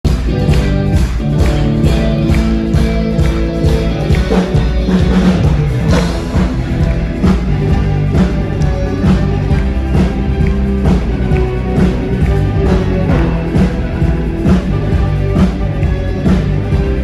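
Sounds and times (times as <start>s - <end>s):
steady drum beat: 0.0s - 17.0s
held low notes and chords: 0.1s - 17.0s.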